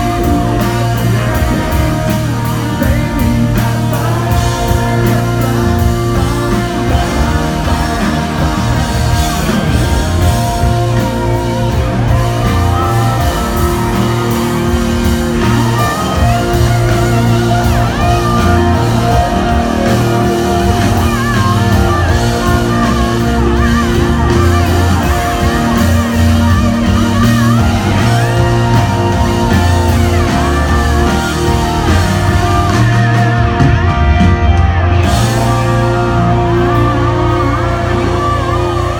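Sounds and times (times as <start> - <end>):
electric guitar: 0.0 - 38.9
live country-rock band: 0.0 - 38.9.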